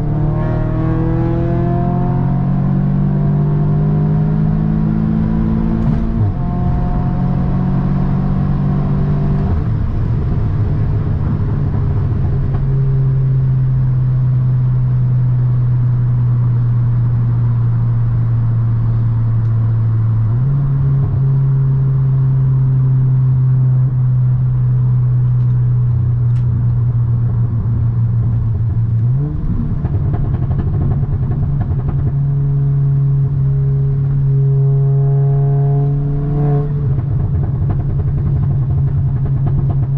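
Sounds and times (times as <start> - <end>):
car engine and exhaust droning: 0.0 - 39.9.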